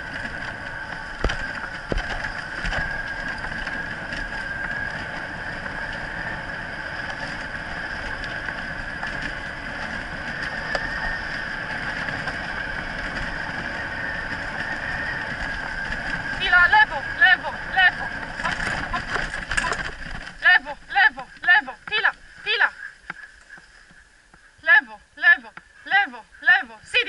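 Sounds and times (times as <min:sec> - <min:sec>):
sled rig rolling rumble and rattle: 0:00.0 - 0:27.0
steady high whine: 0:00.0 - 0:27.0.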